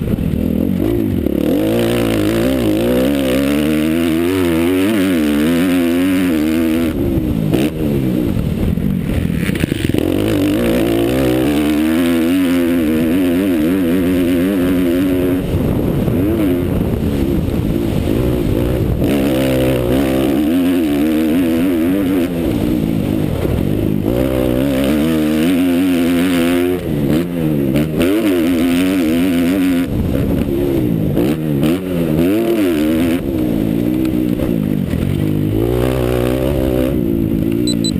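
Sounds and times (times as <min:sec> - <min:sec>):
motocross bike engine revving: 0:00.0 - 0:37.9.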